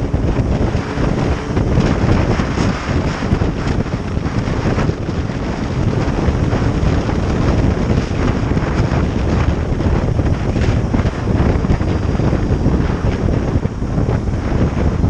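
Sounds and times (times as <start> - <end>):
motorcycle engine and road noise: 0.0 - 15.0
wind rushing over microphone: 0.0 - 15.0.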